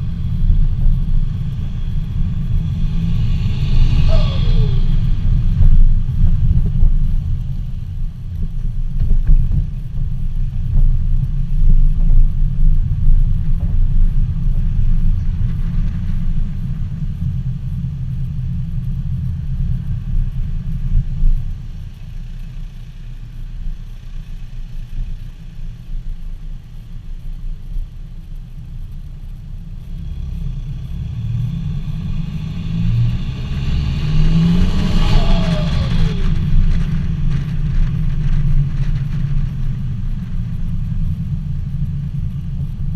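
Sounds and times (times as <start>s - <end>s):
diesel car exhaust driving: 0.0s - 42.9s.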